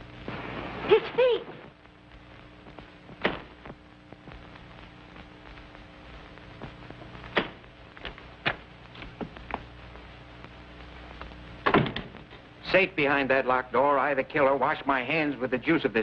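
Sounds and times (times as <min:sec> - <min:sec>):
film soundtrack hum and hiss: 0:00.0 - 0:16.0.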